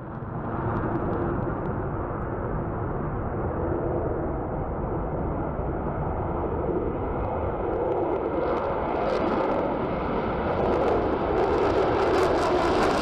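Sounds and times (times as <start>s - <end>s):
jet engine roar with crackle: 0.0s - 13.0s.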